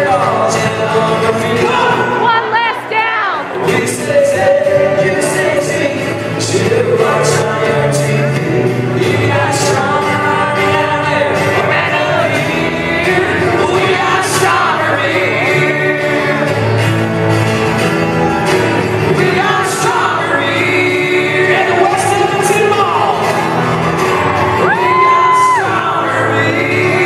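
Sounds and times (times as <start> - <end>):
men singing: 0.0 - 2.5, 3.2 - 27.0
acoustic guitar: 0.0 - 27.0
country band playing: 0.0 - 27.0.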